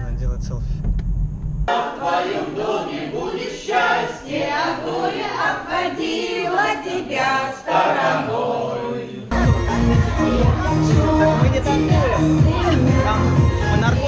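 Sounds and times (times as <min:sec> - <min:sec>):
choir singing: 0:01.7 - 0:14.0.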